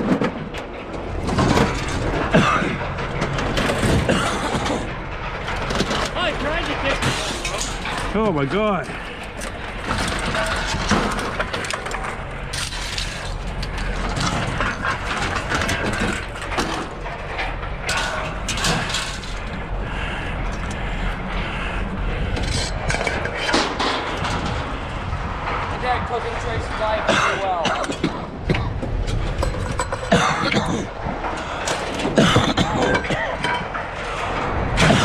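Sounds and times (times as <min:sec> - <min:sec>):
engine humming: 0:00.0 - 0:35.0
scrap metal clattering and banging: 0:00.0 - 0:35.0.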